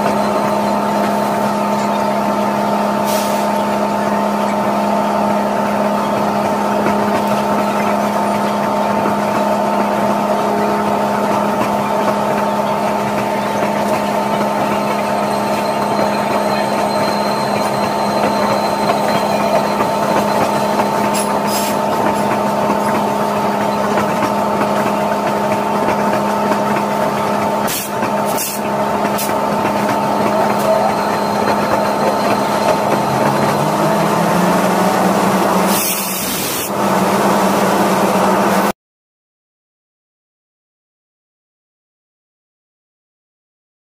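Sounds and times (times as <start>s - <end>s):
standing locomotive humming: 0.0s - 38.7s.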